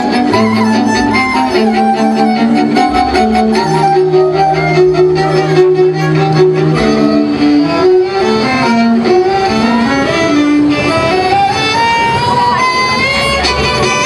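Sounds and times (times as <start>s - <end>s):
string quartet playing: 0.0s - 14.0s.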